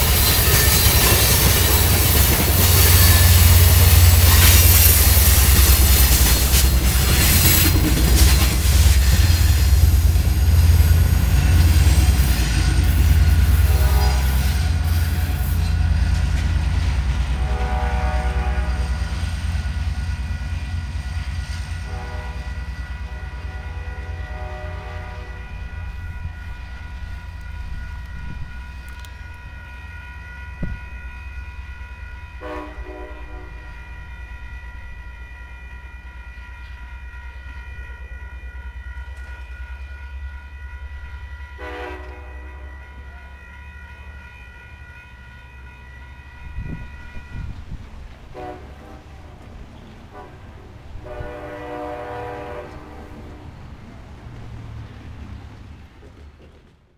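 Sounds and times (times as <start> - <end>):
distant train horn: 0.0 - 54.1
train rumbling past: 0.0 - 56.9.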